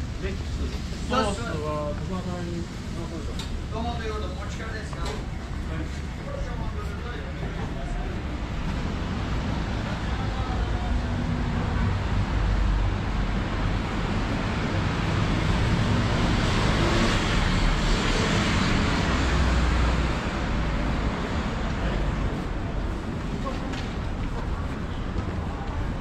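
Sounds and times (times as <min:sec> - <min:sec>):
passing cars rumbling: 0:00.0 - 0:26.0.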